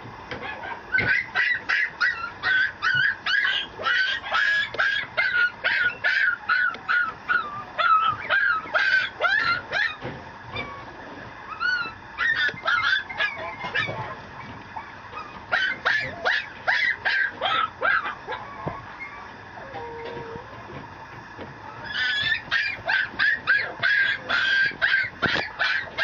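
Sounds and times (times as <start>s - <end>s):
puppy yipping: 0.4s - 10.8s, 11.5s - 20.4s, 21.8s - 26.0s
puppy whining: 0.4s - 20.8s, 21.6s - 26.0s.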